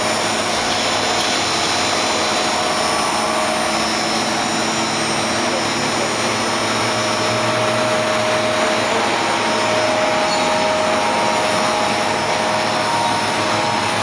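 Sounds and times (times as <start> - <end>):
faint steady whine: 0.0 - 14.0
gearbox machinery noise: 0.0 - 14.0.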